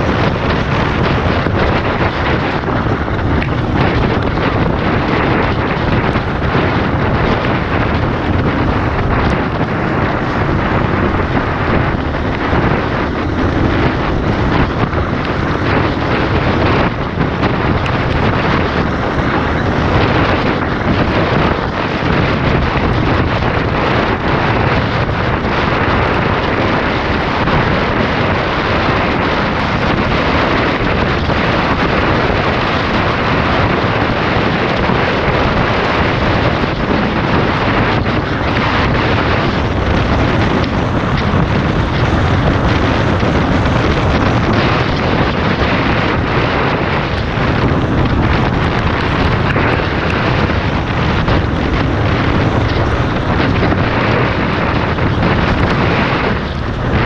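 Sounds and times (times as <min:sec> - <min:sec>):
dirt bike engine running: 0:00.0 - 0:57.0
wind buffeting microphone: 0:00.0 - 0:57.0.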